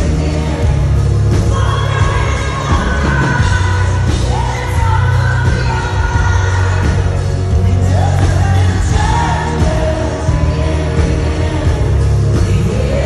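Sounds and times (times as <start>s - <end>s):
live band with heavy bass: 0.0s - 13.0s
woman singing lead vocal: 0.0s - 13.0s.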